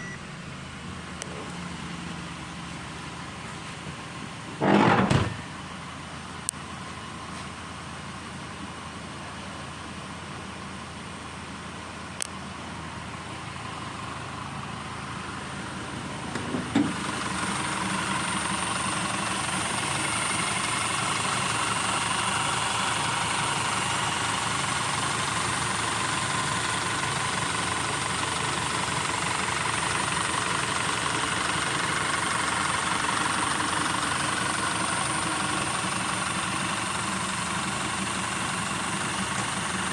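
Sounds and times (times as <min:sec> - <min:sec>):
car engine idling: 0:00.0 - 0:04.6, 0:05.3 - 0:39.9.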